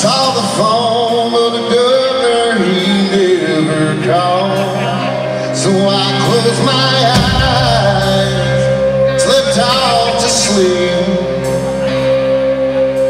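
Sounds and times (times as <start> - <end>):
live country band playing: 0.0 - 13.0.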